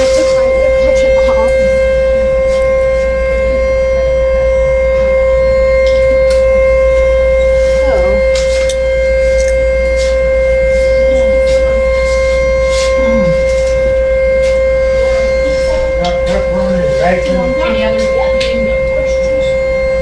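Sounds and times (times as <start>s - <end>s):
warning siren steady tone: 0.0s - 20.0s.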